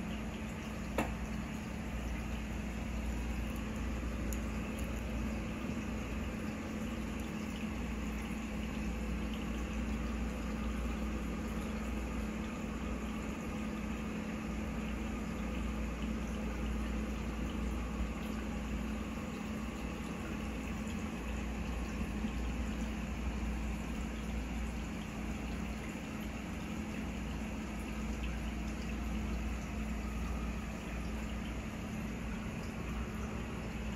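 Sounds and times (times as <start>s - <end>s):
aquarium pumps humming: 0.0s - 33.9s
water bubbling: 0.0s - 33.9s.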